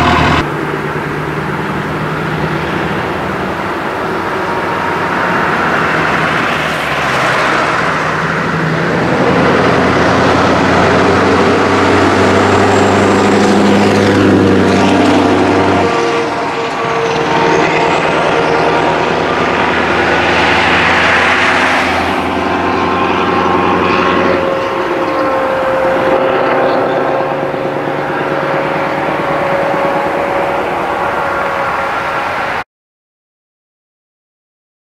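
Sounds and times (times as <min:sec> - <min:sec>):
diesel truck accelerating: 0:00.0 - 0:32.6.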